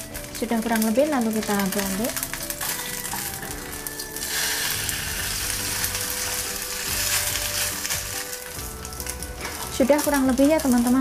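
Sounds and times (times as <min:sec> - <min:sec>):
fish patty sizzling in oil: 0:00.0 - 0:11.0.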